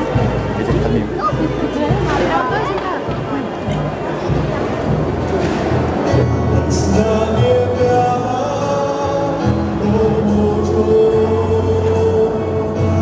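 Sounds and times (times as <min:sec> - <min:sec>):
music with singing: 0:00.0 - 0:13.0.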